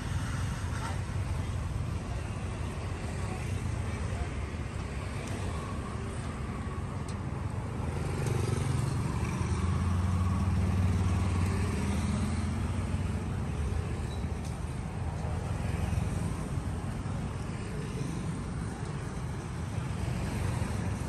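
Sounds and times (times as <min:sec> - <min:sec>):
car engines: 0:00.0 - 0:21.0
motorbike engines: 0:00.0 - 0:21.0.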